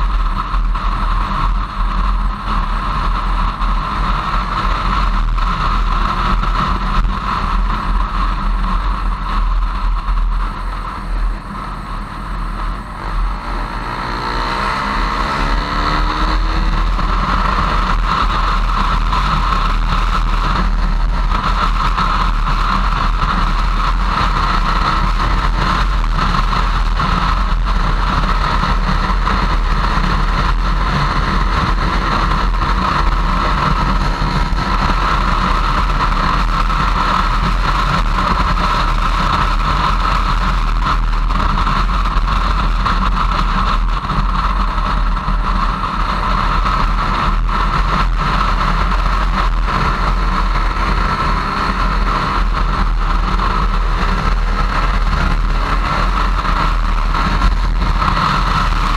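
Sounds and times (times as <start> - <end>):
motorcycle engine: 0.0 - 58.9
road noise: 0.0 - 58.9
wind noise: 0.0 - 58.9.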